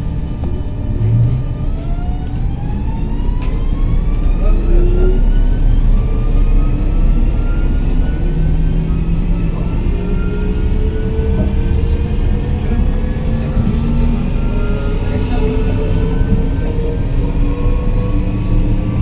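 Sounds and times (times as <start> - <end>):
rumble of running train: 0.0 - 19.0
train traction inverter whining: 0.0 - 19.0.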